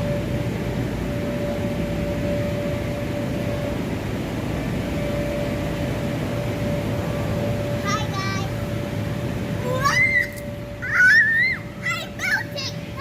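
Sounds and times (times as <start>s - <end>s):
electric air blowers humming: 0.0s - 13.0s.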